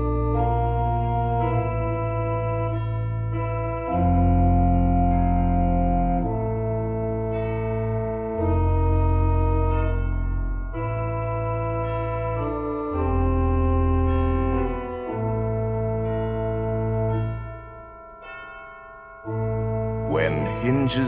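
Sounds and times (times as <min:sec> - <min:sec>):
organ chords over deep bass: 0:00.0 - 0:17.9, 0:19.3 - 0:21.0.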